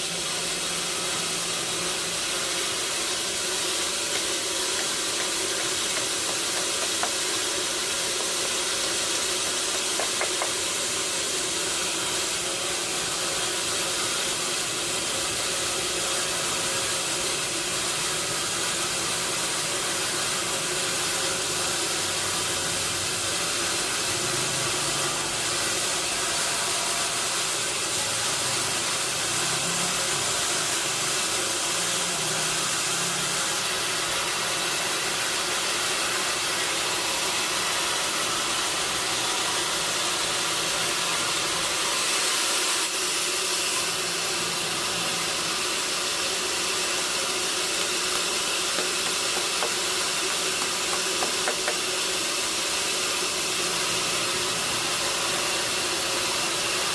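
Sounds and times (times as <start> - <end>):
sawmill machinery hissing: 0.0 - 56.9
steady machinery hum: 0.0 - 56.9.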